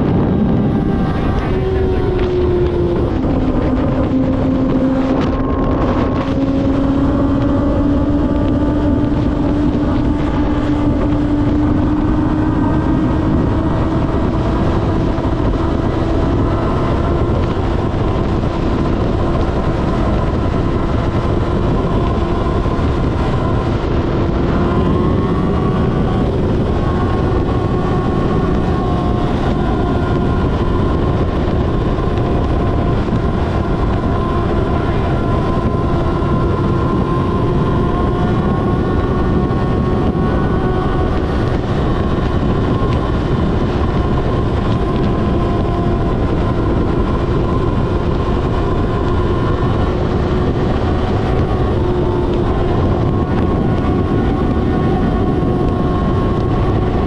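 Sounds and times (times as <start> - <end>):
motorcycle engine running: 0.0 - 57.0
rushing noise: 0.0 - 57.0.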